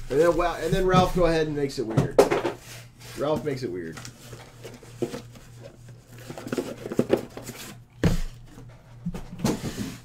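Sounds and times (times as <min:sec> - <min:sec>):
boxes knocking and rustling: 0:00.0 - 0:10.0
low electrical hum: 0:00.0 - 0:10.0.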